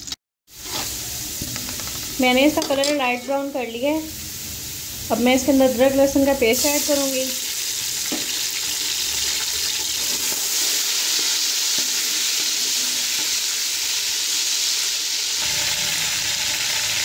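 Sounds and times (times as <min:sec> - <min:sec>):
paste sizzling in hot oil: 0:00.0 - 0:17.0.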